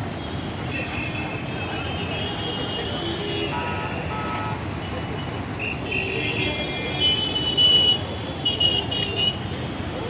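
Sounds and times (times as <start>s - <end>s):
traffic hum: 0.0s - 10.0s.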